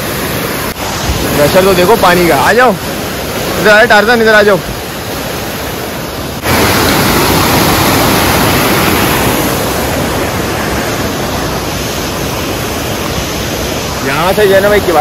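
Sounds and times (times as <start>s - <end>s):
waterfall crashing: 0.0s - 15.0s.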